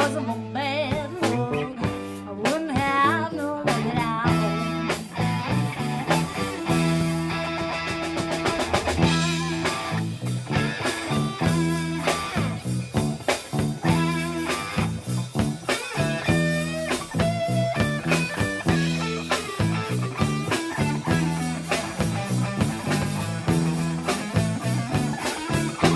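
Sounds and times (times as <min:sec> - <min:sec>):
blues guitar lead with bent notes: 0:00.0 - 0:25.9
drum kit: 0:00.0 - 0:25.9
repeating bass riff: 0:03.7 - 0:25.9.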